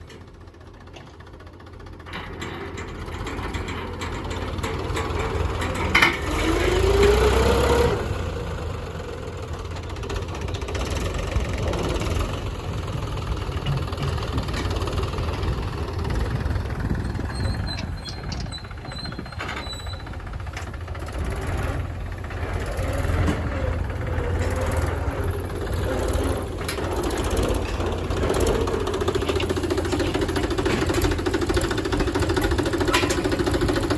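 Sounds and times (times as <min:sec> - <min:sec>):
diesel tractor engine running: 0:00.0 - 0:33.9.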